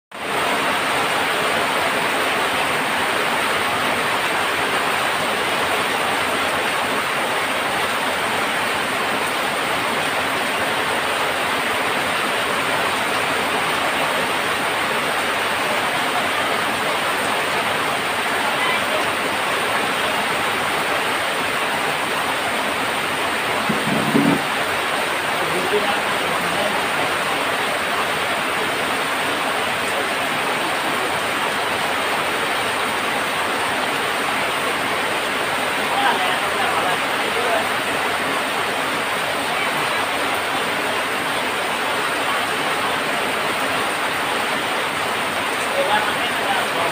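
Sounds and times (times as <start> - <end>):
heavy rain on a tin roof: 0.1 - 46.9
water streaming off eaves: 0.1 - 46.9.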